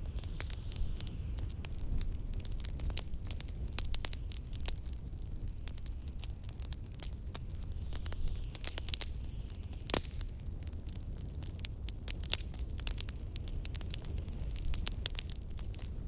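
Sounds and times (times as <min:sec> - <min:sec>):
fireplace fire crackling and popping: 0:00.0 - 0:16.0
low rumble of wind: 0:00.0 - 0:16.0.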